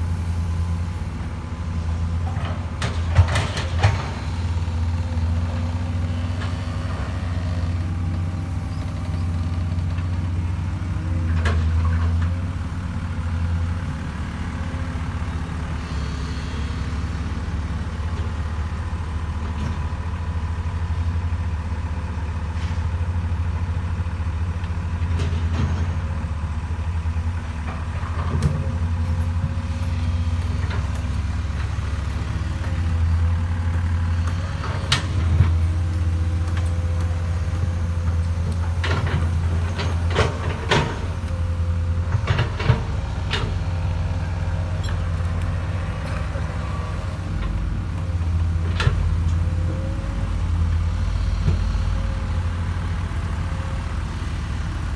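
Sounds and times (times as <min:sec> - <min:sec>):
excavator engine rumbling: 0:00.0 - 0:54.9.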